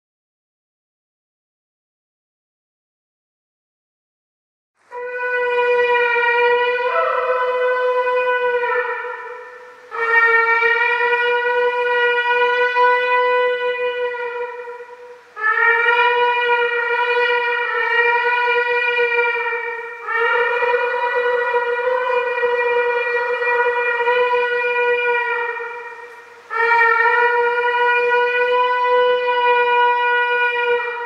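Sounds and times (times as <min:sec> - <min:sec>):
horn blasts: 0:04.9 - 0:31.0.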